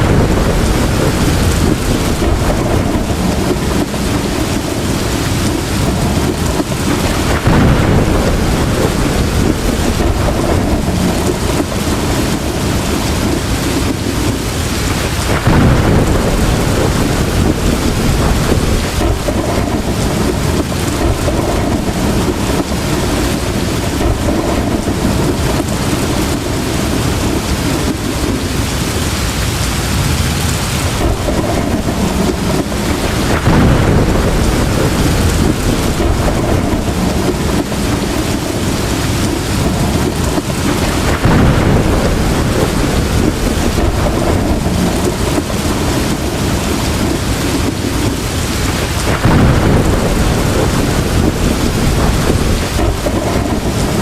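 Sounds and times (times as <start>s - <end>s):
heavy rain pouring: 0.0s - 54.0s
thunder rumbling: 0.0s - 54.0s.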